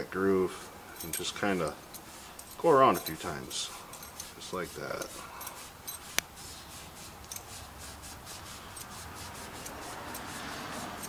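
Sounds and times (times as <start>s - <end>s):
scouring pad scrubbing metal: 1.2s - 11.0s.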